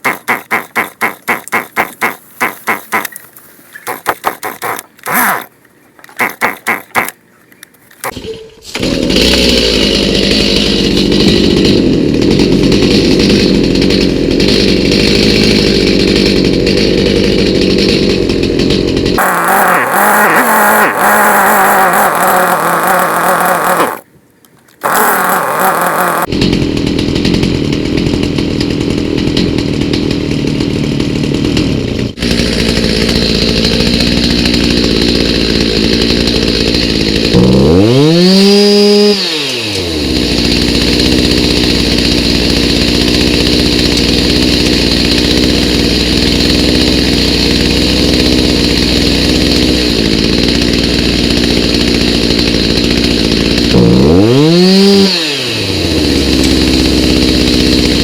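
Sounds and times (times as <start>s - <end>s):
chainsaw engine running: 0.0s - 3.2s, 3.9s - 7.2s, 7.9s - 24.1s, 24.8s - 58.0s.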